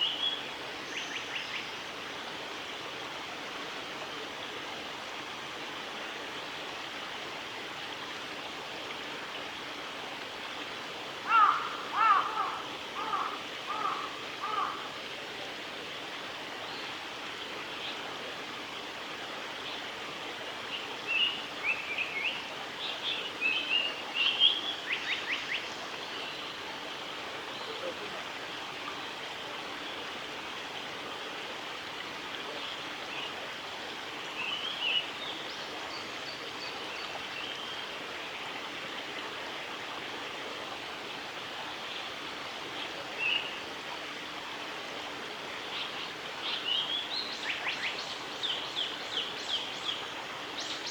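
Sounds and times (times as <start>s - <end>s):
steady background hiss: 0.0s - 50.9s.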